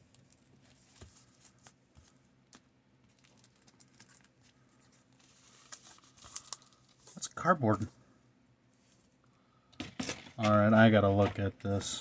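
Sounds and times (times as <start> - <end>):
cardboard and paper rustling: 0.0 - 7.9, 9.8 - 12.0.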